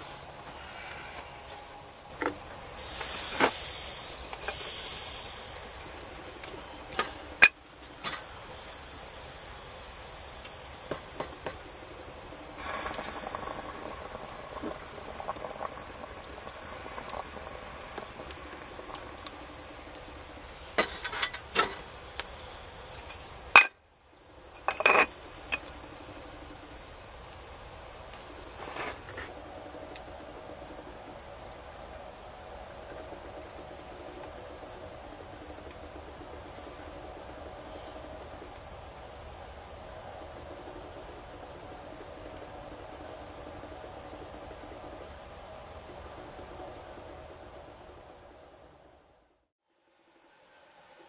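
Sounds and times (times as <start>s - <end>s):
steam hissing: 0.0s - 48.9s
water boiling in a kettle: 0.0s - 51.0s.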